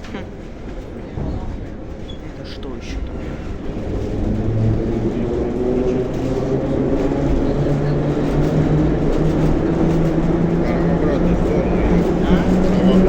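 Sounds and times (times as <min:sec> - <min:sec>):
metro train running rumble: 0:00.0 - 0:13.0
train motor hum: 0:00.0 - 0:13.0.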